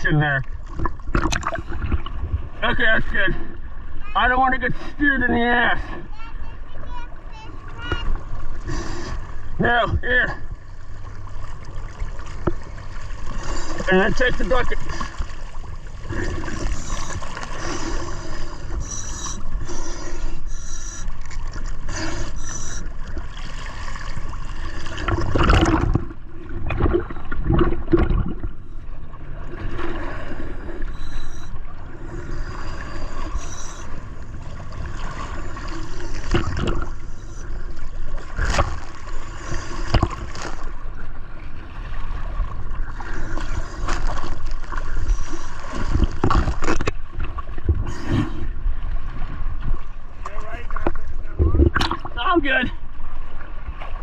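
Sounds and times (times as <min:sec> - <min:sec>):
water gurgling and sloshing: 0:00.0 - 0:54.0.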